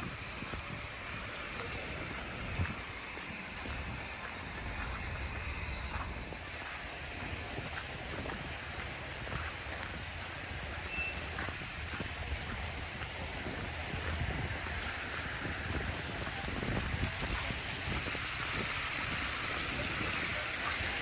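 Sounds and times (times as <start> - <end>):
city street noise hiss: 0.0 - 21.0
wind rumbling on microphone: 0.0 - 21.0.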